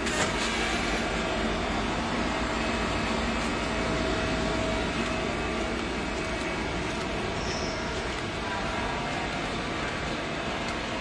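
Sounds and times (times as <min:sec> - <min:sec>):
lathe humming and whirring: 0:00.0 - 0:11.0
faint constant tones: 0:01.0 - 0:11.0.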